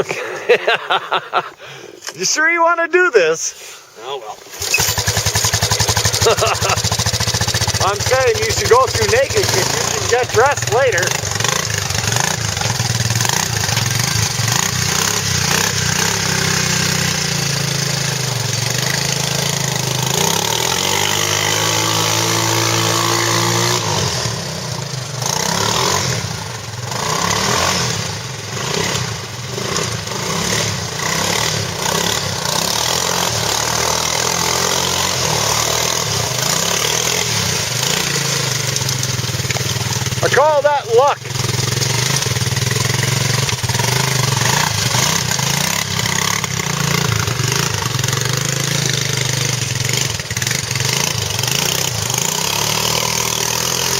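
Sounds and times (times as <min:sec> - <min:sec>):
quad engine revving: 0:04.0 - 0:53.9.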